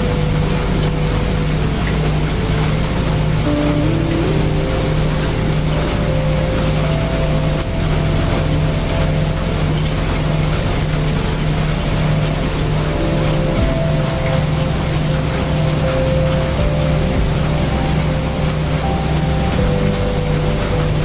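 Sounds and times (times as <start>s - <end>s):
heavy rain hiss: 0.0s - 21.0s
low steady hum: 0.0s - 21.0s.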